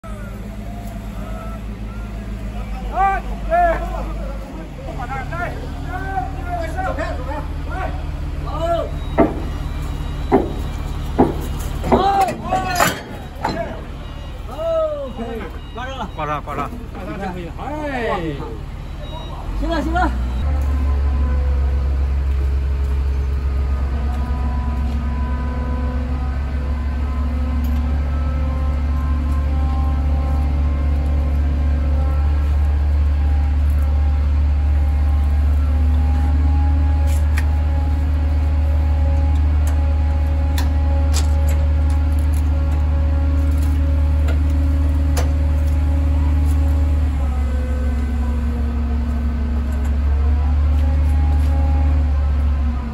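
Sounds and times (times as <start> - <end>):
large engine running: 0.0 - 52.9
low mechanical rumble: 0.0 - 52.9.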